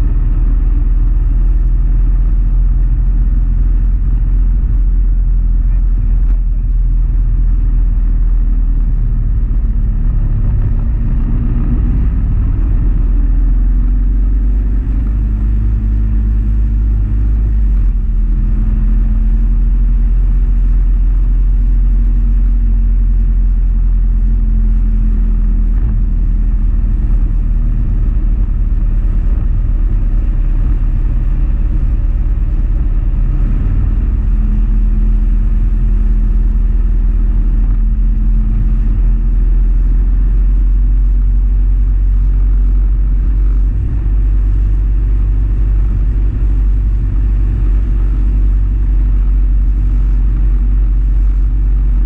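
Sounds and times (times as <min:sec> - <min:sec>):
motorcycle engine running: 0:00.0 - 0:52.0
wind rumble on microphone: 0:00.0 - 0:52.0.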